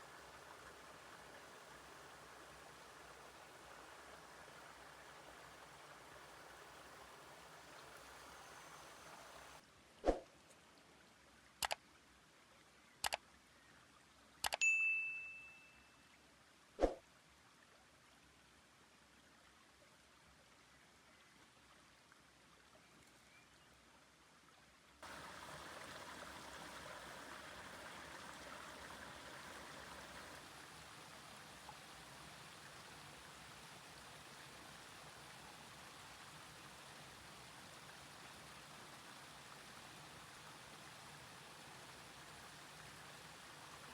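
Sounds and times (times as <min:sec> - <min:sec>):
running water: 0:00.0 - 0:12.6, 0:13.8 - 0:43.9.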